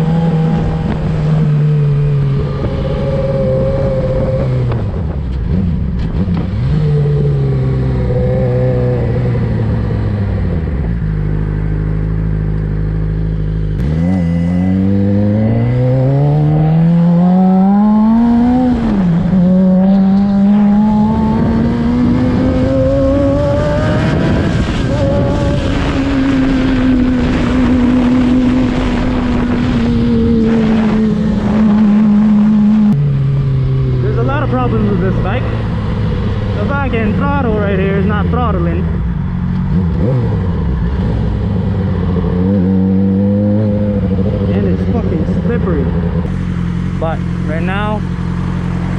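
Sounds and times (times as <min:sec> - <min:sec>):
wind rushing over microphone: 0:00.0 - 0:11.3, 0:13.7 - 0:46.3
motorcycle engine revving: 0:00.0 - 0:48.9.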